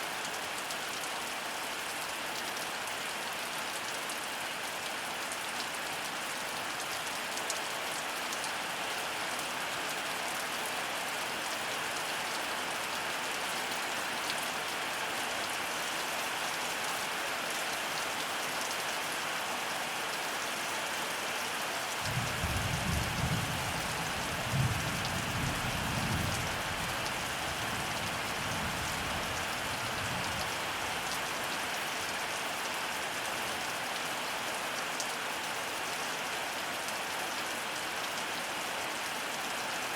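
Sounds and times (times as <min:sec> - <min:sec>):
heavy rain falling: 0:04.4 - 0:39.9.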